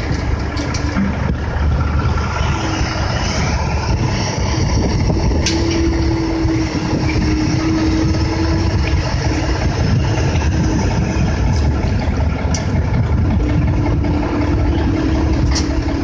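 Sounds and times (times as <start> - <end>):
excavator diesel engine: 0.0 - 16.0
steady whine: 0.0 - 16.0.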